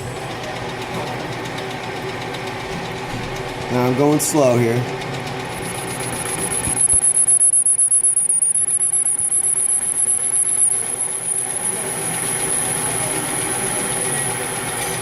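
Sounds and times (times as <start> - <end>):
metal lathe humming: 0.0 - 15.0.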